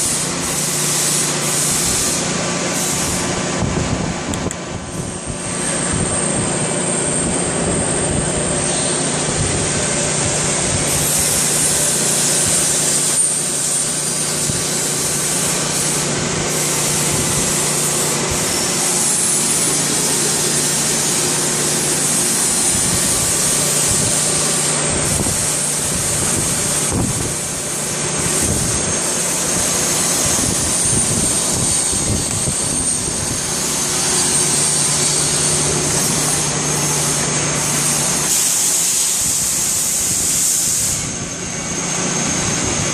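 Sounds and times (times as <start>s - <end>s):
lathe running with hum and whine: 0.0s - 42.9s.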